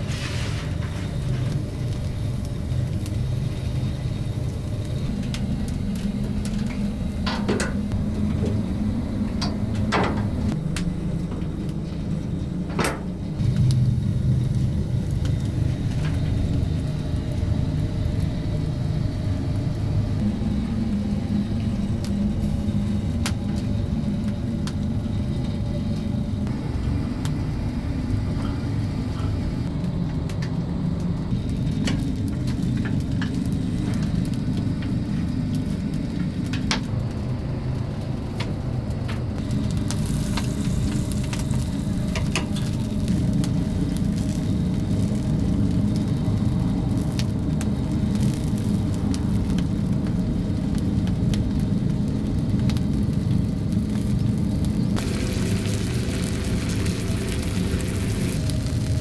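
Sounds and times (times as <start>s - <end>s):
burning wood crackling: 0.0s - 59.0s
oven low rumble: 0.0s - 59.0s.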